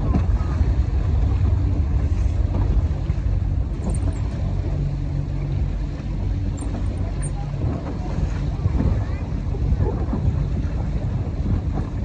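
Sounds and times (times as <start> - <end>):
boat motor running: 0.0 - 12.0
wind rumble on microphone: 0.0 - 12.0.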